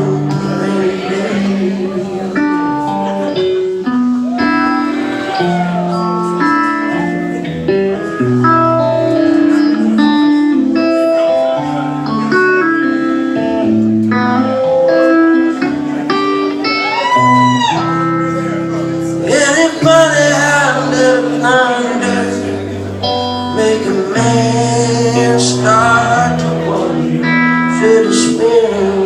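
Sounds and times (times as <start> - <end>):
guitar bending notes: 0.0 - 29.0
live country band playing: 0.0 - 29.0.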